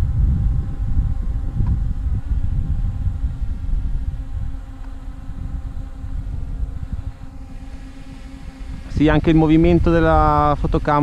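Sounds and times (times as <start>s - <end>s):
drone propellers buzzing: 0.0s - 11.0s
wind rumbling on microphone: 0.0s - 11.0s.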